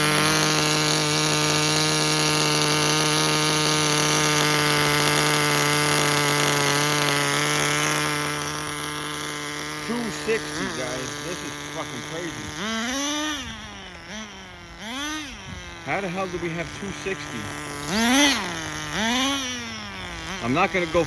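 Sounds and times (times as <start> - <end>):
rc car engine at high revs: 0.0 - 21.0.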